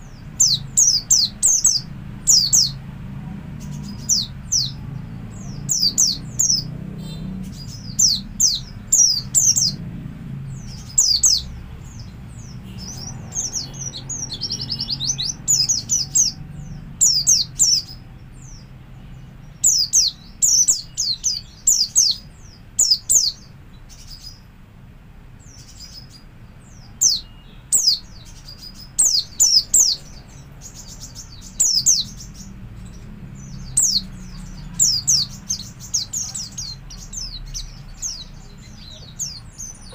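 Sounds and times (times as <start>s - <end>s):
bird chirping and trilling: 0.0s - 24.6s, 25.4s - 39.9s.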